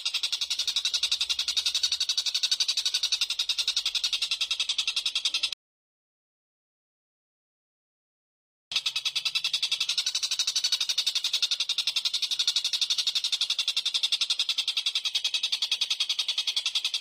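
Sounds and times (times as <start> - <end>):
songbird rattling trill: 0.0 - 5.6, 8.7 - 17.0.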